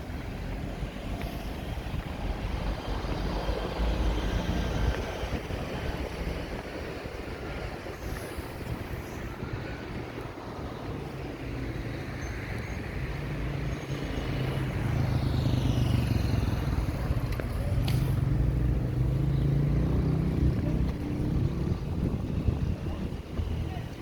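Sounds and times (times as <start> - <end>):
road noise: 0.0 - 24.0
vehicle engine humming: 0.0 - 24.0.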